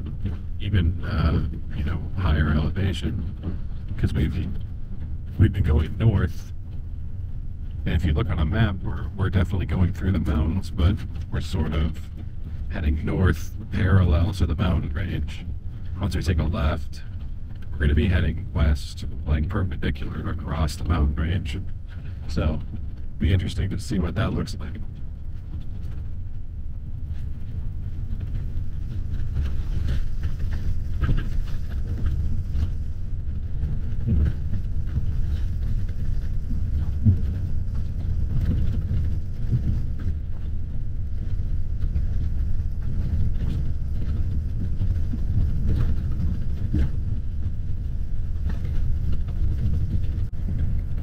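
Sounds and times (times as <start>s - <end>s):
bus engine and tyre rumble: 0.0s - 51.0s.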